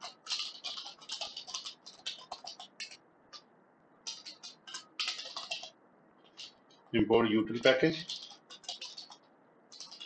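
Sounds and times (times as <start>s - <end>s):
keyboard typing: 0.0s - 6.9s, 7.5s - 10.0s.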